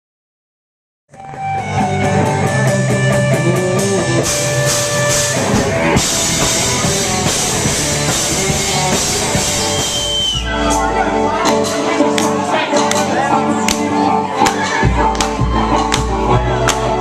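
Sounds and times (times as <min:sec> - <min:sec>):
rock band playing: 0:01.1 - 0:17.0.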